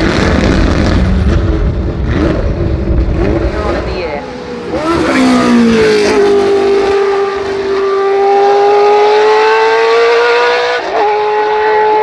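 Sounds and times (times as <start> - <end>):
racing car engine at high revs: 0.0 - 12.0.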